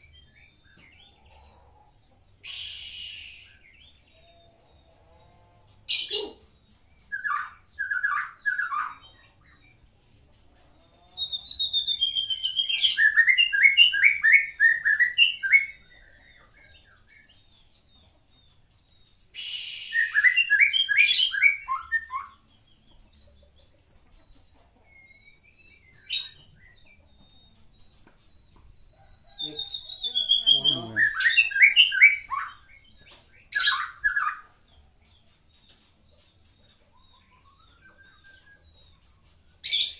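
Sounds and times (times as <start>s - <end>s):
bird singing loud phrases: 0.0s - 39.9s.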